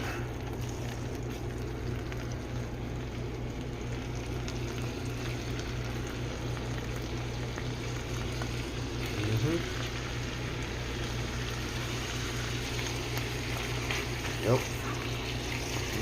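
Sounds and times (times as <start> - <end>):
fish sizzling in butter: 0.0 - 16.0.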